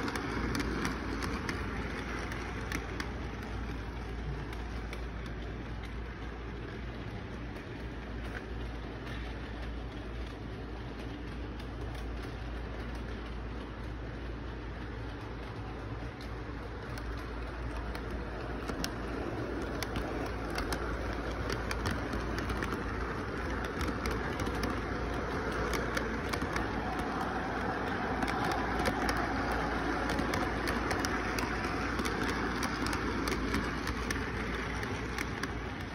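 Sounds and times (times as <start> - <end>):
model train motor hum: 0.0 - 35.9
wheels clicking over rail joints: 0.0 - 35.9.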